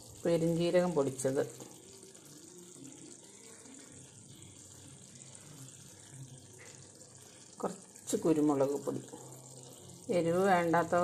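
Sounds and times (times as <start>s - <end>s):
gravy simmering hiss: 0.0s - 11.0s.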